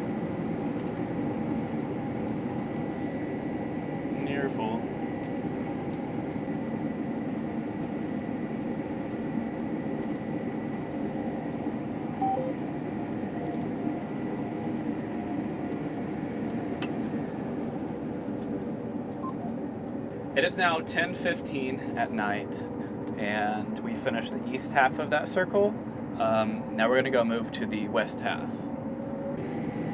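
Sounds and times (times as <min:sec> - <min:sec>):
combine harvester drone: 0:00.0 - 0:29.9
high steady whine: 0:00.0 - 0:29.9.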